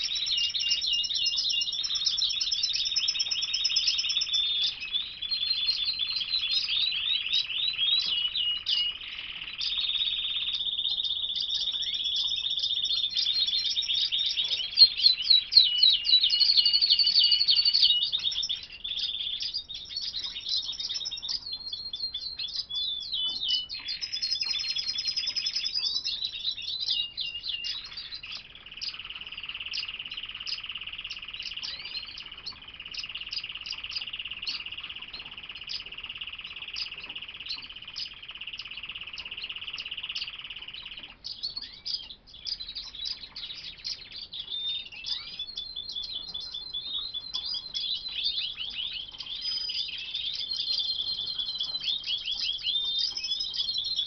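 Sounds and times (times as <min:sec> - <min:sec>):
canaries singing: 0:00.0 - 0:54.0.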